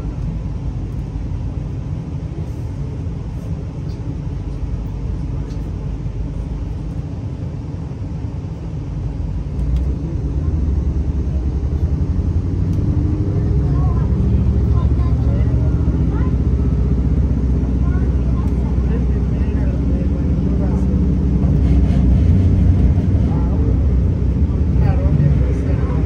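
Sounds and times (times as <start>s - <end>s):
train interior rumble: 0.0s - 26.0s.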